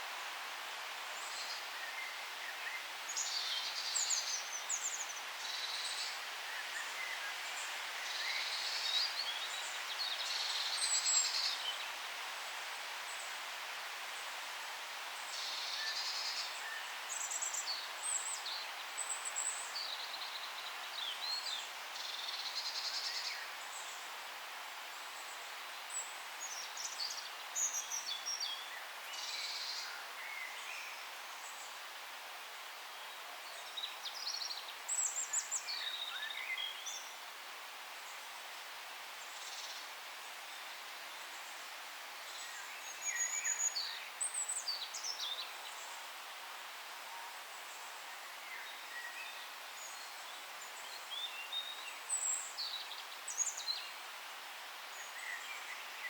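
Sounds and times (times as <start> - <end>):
forest ambience hiss: 0.0 - 56.0.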